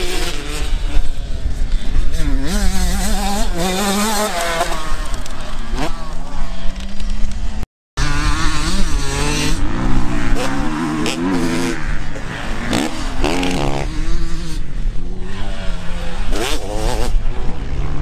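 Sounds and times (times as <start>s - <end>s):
motocross bikes revving: 0.0s - 18.0s.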